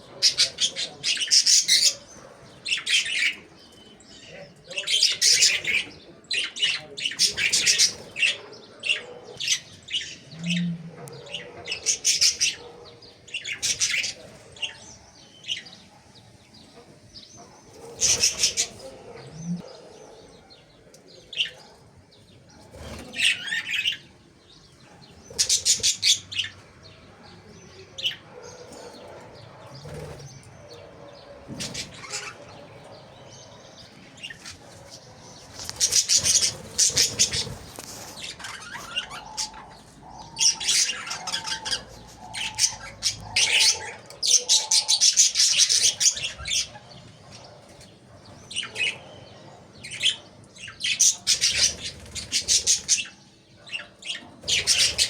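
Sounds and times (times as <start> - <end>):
cage birds chirping: 0.0 - 55.0.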